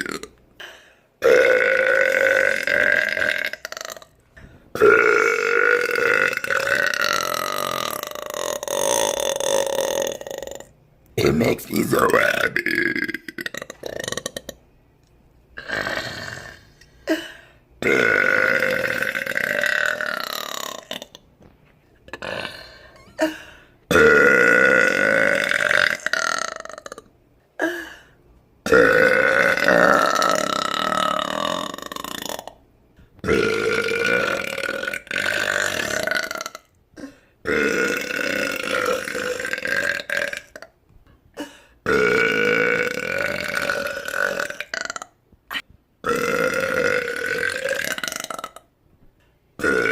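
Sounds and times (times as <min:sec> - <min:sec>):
woman belching: 0:00.0 - 0:00.4, 0:01.2 - 0:04.2, 0:04.8 - 0:10.7, 0:12.0 - 0:14.6, 0:15.6 - 0:17.2, 0:17.8 - 0:21.2, 0:22.1 - 0:27.1, 0:28.7 - 0:32.6, 0:33.2 - 0:40.8, 0:41.8 - 0:48.7, 0:49.6 - 0:49.9.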